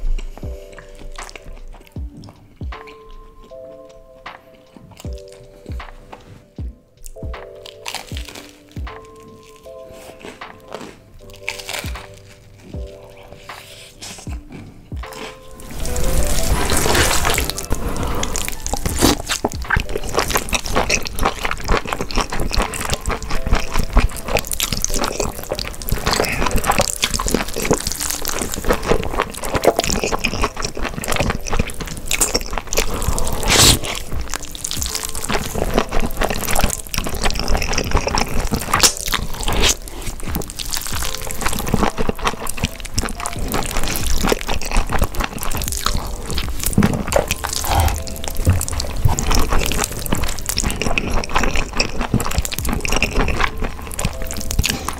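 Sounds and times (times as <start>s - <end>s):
background music: 0.0s - 54.9s
slurping and chewing noodles: 7.1s - 54.9s.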